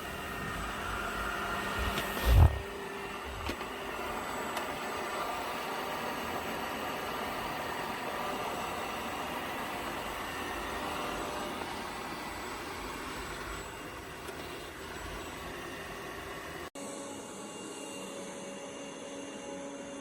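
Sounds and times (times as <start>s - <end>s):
robot vacuum motor whir: 0.0s - 16.7s.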